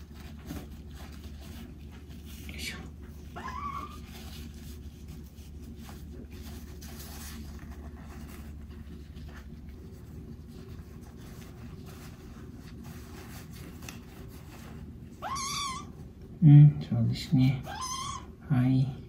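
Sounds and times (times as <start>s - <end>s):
tissue rustling: 0.0s - 16.1s
steady low hum: 0.0s - 19.0s.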